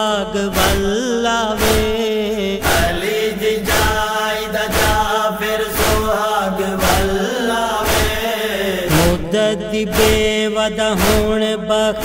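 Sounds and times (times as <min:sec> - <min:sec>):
person chanting a lament: 0:00.0 - 0:12.0
sharp percussive beat: 0:00.5 - 0:11.6.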